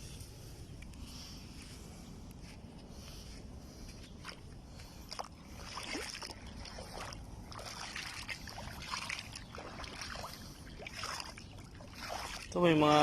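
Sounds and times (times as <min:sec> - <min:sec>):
steady low rumble: 0:00.0 - 0:12.6
seawater lapping at shoreline: 0:00.1 - 0:13.0.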